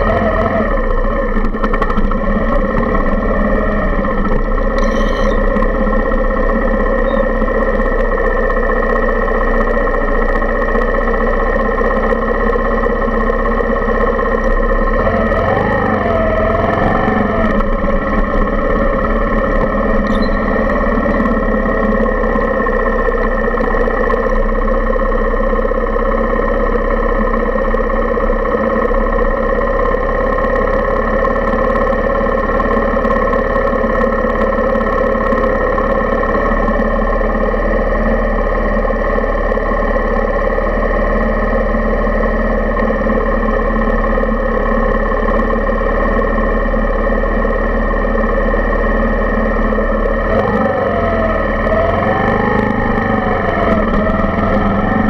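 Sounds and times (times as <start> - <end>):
motorcycle engine running at low revs: 0.0 - 55.0.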